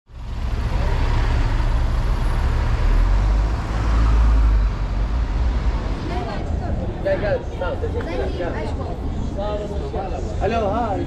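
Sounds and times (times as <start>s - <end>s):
bus and car rumbling past: 0.1s - 10.3s.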